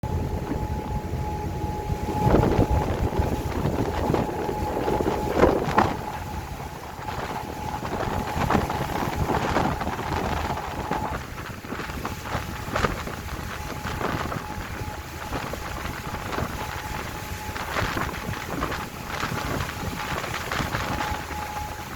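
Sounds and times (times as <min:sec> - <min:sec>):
boat engine drone: 0:00.0 - 0:21.9
wind buffeting microphone: 0:00.0 - 0:21.9.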